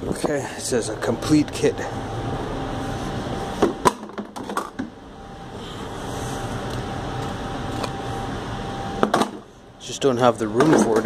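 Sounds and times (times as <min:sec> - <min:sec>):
faint high whine: 0:00.0 - 0:11.0
steady background hum: 0:00.0 - 0:11.0.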